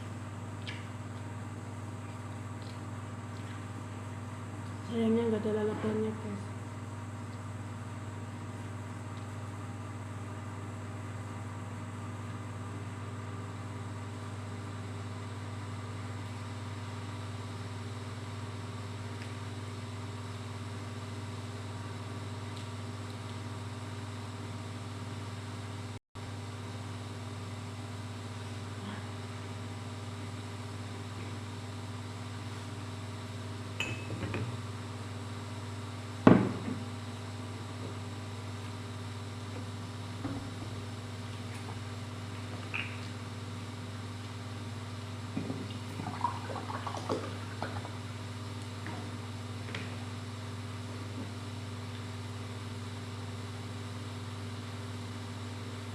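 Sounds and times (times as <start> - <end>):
low mechanical hum: 0.0 - 55.9.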